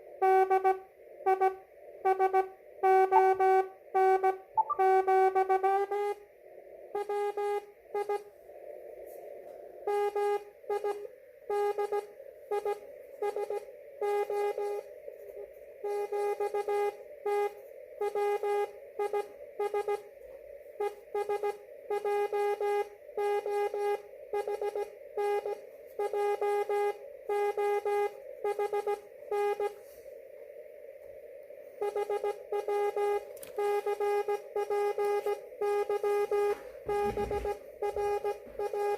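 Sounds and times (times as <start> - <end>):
receiver hiss: 0.0 - 38.9
morse code tone: 0.2 - 6.2, 7.0 - 8.3, 9.9 - 14.9, 15.8 - 20.1, 20.8 - 29.9, 31.8 - 38.9.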